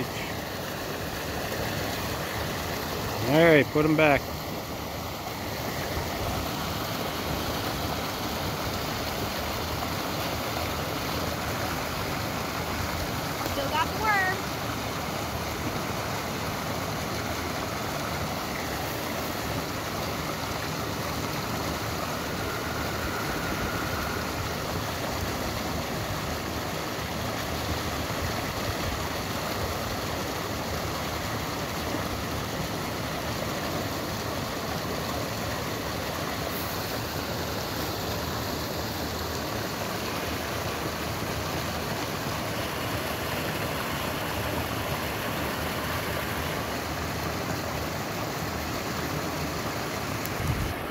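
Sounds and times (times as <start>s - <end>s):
water rushing over spillway: 0.0s - 50.9s.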